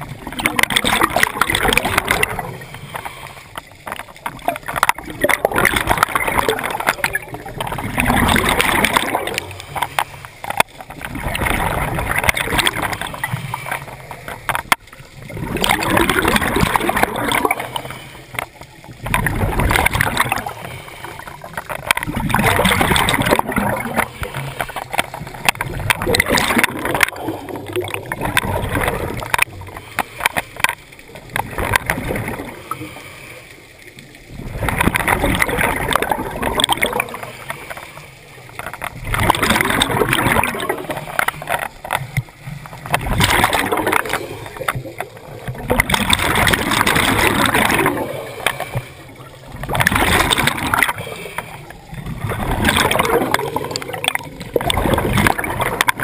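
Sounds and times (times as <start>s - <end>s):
diver exhaling bubbles: 0.0s - 3.2s, 4.2s - 33.1s, 34.3s - 37.9s, 38.5s - 42.2s, 42.8s - 56.0s.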